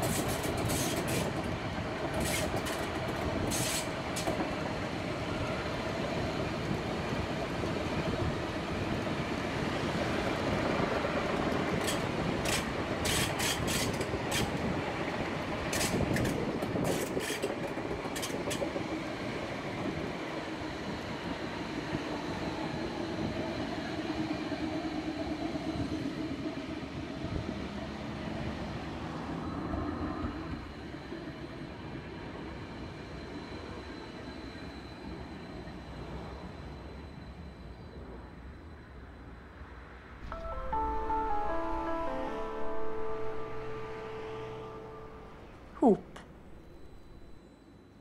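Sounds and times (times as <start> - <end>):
tram rumbling along track: 0.0 - 47.4.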